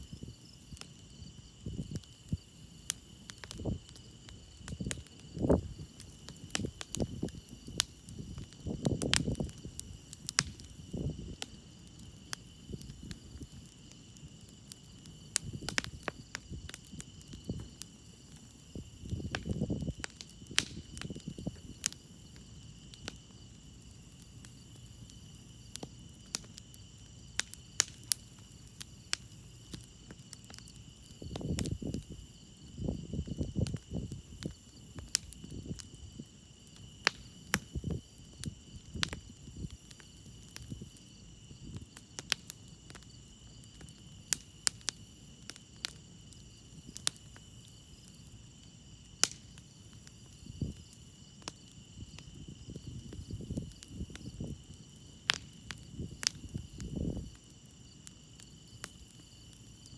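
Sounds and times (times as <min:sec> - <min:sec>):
campfire crackling: 0:00.0 - 0:59.9
crickets chirring: 0:00.0 - 0:59.9.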